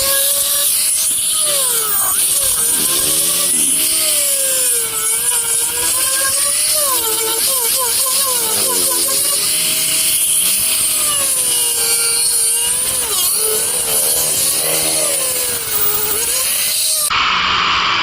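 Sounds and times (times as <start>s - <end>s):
power tool cutting wood: 0.0s - 17.3s.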